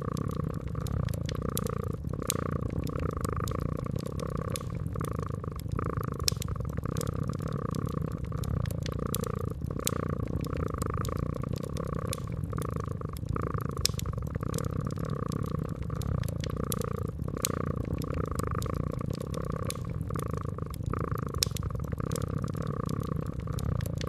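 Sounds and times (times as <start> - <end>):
cat purring: 0.0 - 24.0
wood fire crackling: 0.0 - 24.0.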